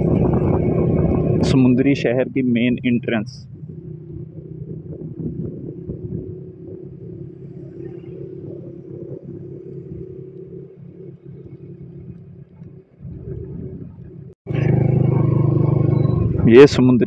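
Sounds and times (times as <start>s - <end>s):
wind buffeting microphone: 0.0s - 16.8s
motorcycle engine running: 0.0s - 17.0s.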